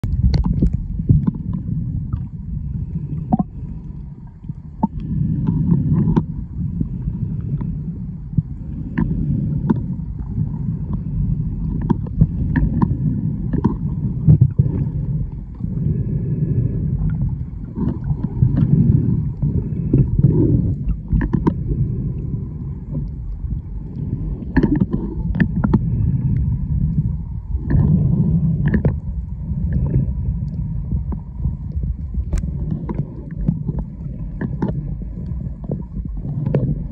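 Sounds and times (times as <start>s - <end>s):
underwater rushing rumble: 0.0s - 36.9s.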